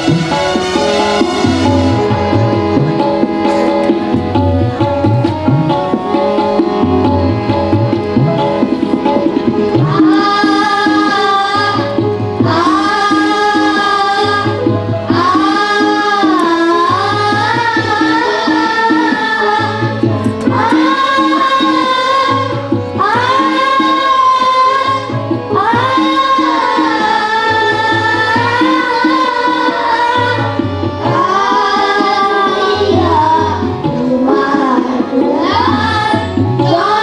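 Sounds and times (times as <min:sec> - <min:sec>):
children singing into microphones: 0:00.0 - 0:37.0
hand drum rhythm: 0:00.0 - 0:37.0.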